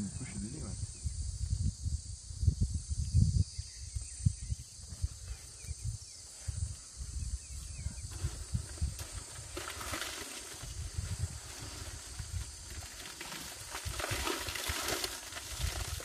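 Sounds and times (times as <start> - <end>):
high drone of insects: 0.0 - 16.0
wind buffeting microphone: 0.0 - 16.0.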